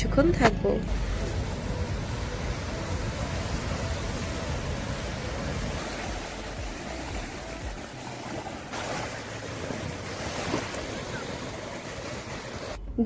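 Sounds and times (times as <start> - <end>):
surf washing onto beach: 0.9 - 12.8.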